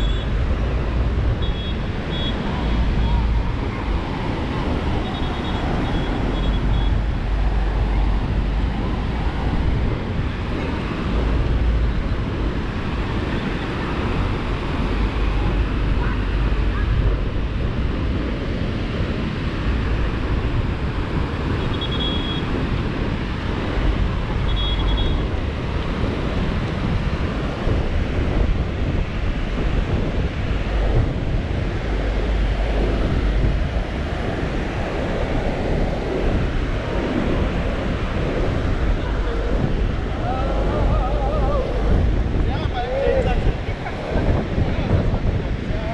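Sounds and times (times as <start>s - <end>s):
ocean surf breaking: 0.0s - 45.9s
wind buffeting microphone: 0.0s - 45.9s.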